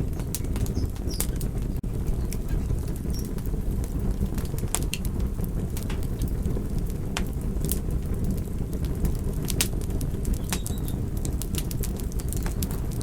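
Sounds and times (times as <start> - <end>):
campfire crackling: 0.0 - 13.0
fire popping: 0.0 - 13.0
low rumble of flames: 0.0 - 13.0.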